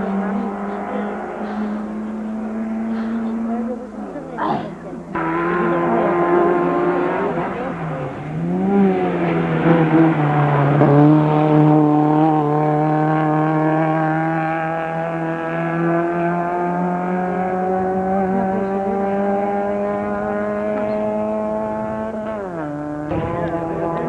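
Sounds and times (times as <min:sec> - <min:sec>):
racing car engine revving: 0:00.0 - 0:24.0.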